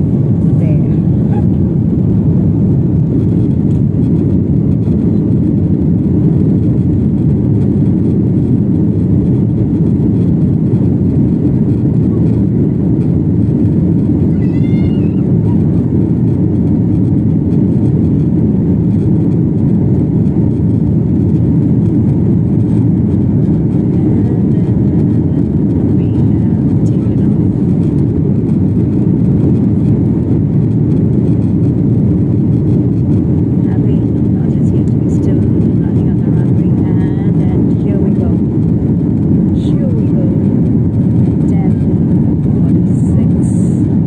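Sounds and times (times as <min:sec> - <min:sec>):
jet engines deep rumble: 0:00.0 - 0:44.0.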